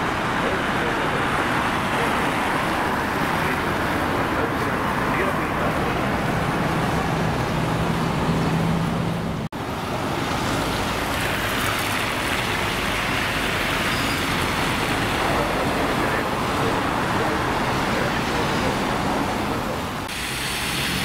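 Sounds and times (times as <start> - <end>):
city street traffic: 0.0 - 21.0
low engine hum: 0.0 - 21.0.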